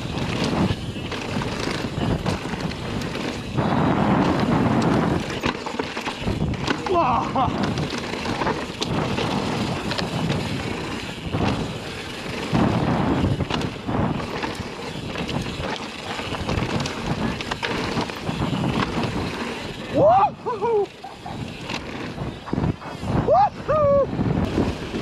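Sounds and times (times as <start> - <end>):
bike clicks and knocks: 0.0 - 25.0
tyres on dirt: 0.0 - 25.0
wind on microphone: 0.0 - 25.0.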